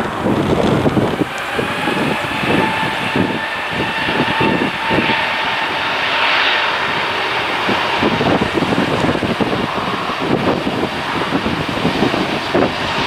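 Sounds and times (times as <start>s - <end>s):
jet engines running: 0.0s - 13.0s
wind buffeting microphone: 0.0s - 13.0s.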